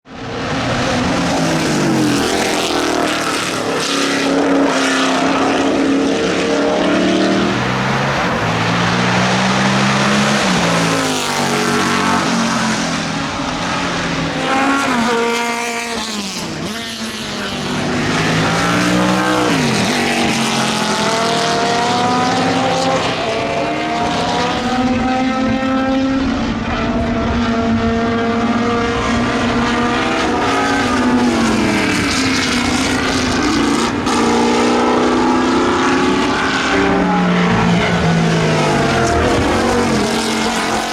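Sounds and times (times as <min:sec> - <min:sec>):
racing engine accelerating: 0:00.2 - 0:40.9.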